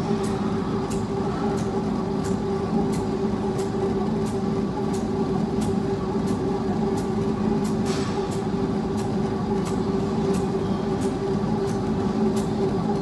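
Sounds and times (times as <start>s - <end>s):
treadmill motor and belt whine: 0.0s - 13.0s.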